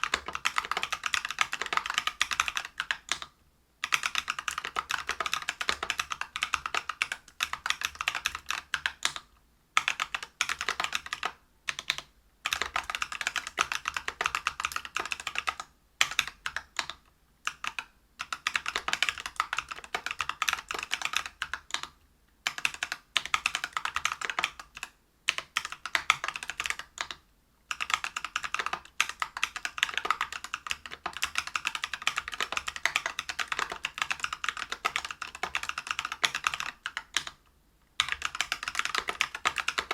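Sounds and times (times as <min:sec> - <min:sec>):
mechanical keyboard typing: 0:00.0 - 0:37.4, 0:38.0 - 0:39.9.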